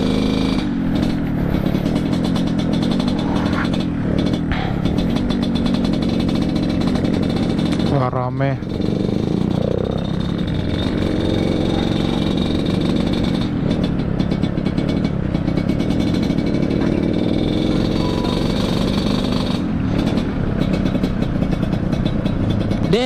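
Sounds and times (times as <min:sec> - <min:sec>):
two-stroke motorcycle engine running: 0:00.0 - 0:23.0.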